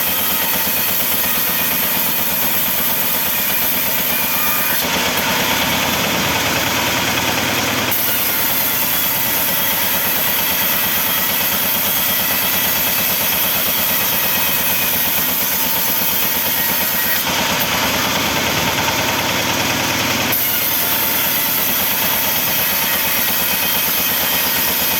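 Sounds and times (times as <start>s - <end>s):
sawmill saw running: 0.0s - 24.9s.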